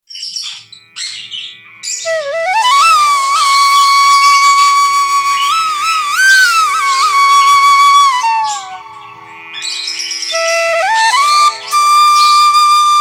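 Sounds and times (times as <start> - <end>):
flute melody: 2.0 - 13.0.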